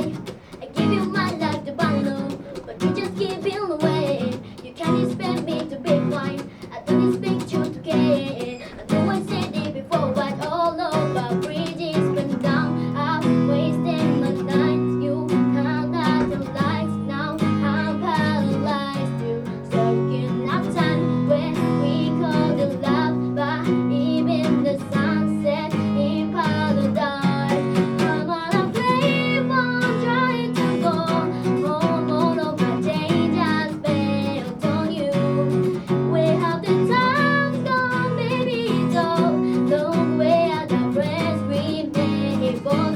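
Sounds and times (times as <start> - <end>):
acoustic guitar strumming: 0.0 - 42.9
person singing: 0.0 - 42.9.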